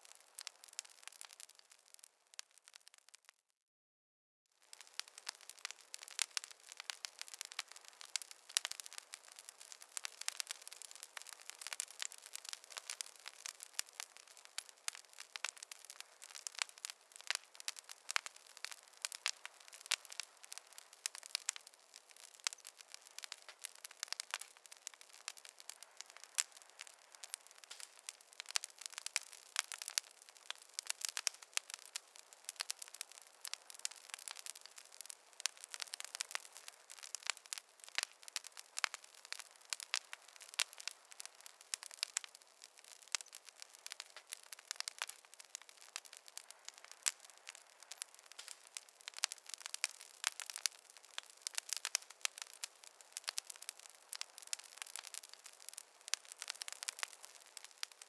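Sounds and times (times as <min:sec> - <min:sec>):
campfire crackling and popping: 0:00.0 - 0:03.4, 0:04.6 - 0:58.0
soft fire hiss: 0:04.6 - 0:58.0.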